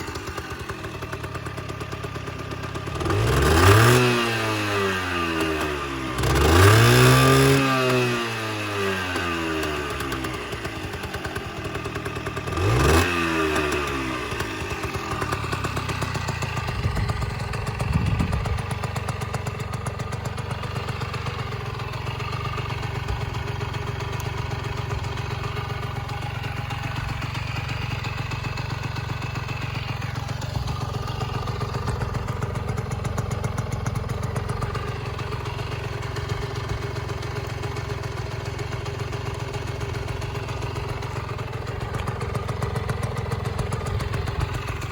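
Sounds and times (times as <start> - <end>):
motorcycle engine revving and idling: 0.0 - 44.9.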